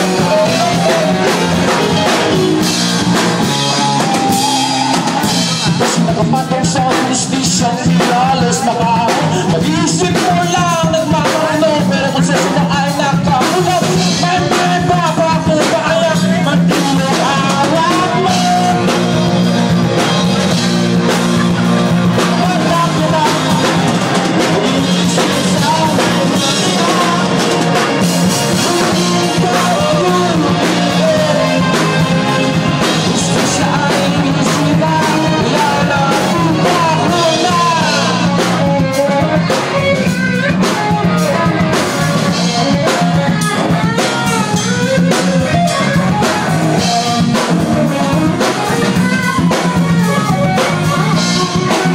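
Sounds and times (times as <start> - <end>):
bass line: 0.0 - 51.9
drum kit beat: 0.0 - 51.9
electric keyboard: 0.0 - 51.9
person singing: 0.0 - 51.9.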